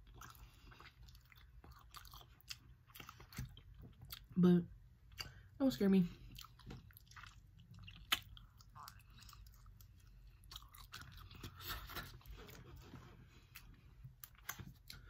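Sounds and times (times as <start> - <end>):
person chewing seafood: 0.0 - 5.6, 6.2 - 15.0.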